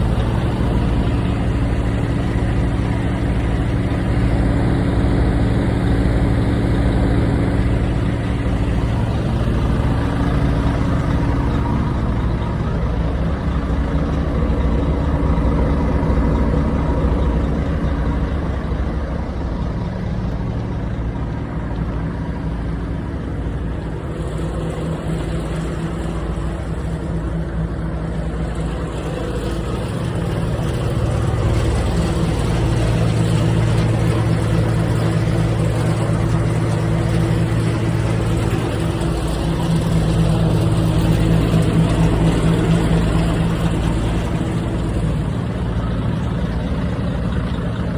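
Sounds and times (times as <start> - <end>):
diesel truck engine running: 0.0 - 47.9.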